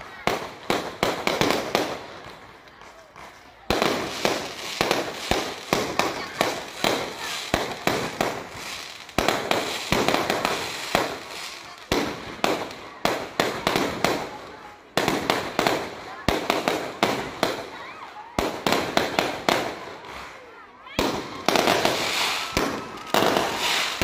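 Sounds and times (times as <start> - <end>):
fireworks bursting: 0.0 - 24.0
fireworks crackling: 0.0 - 24.0.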